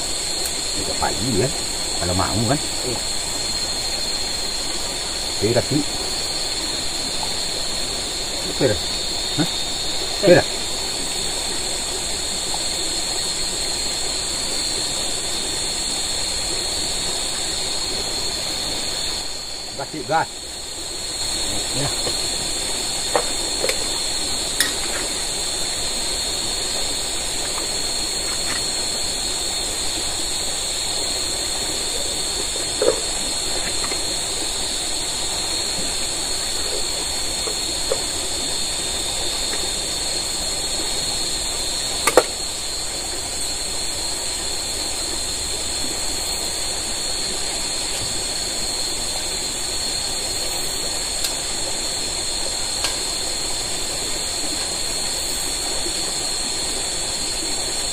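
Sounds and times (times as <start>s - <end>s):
flowing water hiss: 0.0s - 57.9s
high-pitched insect chorus: 0.0s - 57.9s.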